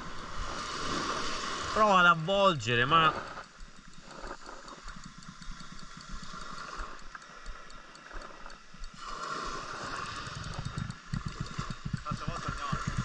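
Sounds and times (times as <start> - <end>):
fishing reel drag ticking: 0.0 - 13.0.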